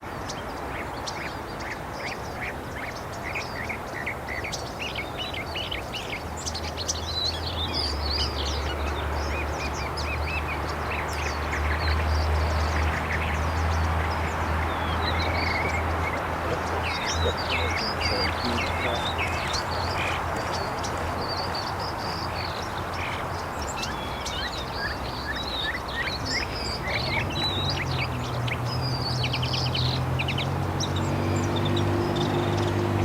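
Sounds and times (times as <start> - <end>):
mockingbird singing varied phrases: 2.2 - 33.0.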